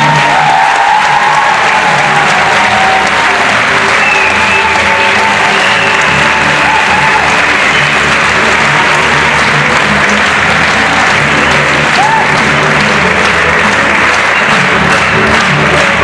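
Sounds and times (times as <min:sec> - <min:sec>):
audience applauding: 0:00.0 - 0:16.0
music playing: 0:00.0 - 0:16.0.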